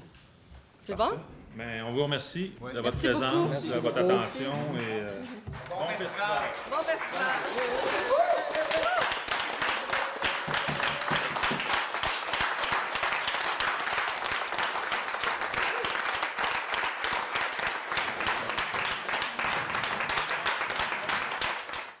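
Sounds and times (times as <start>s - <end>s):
crowd applauding: 4.2s - 22.0s.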